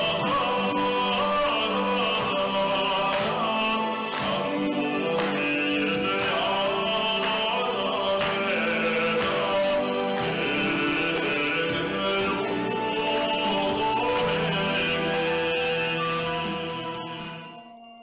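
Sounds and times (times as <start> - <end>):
man singing into a microphone: 0.0 - 17.6
musical accompaniment: 0.0 - 18.0.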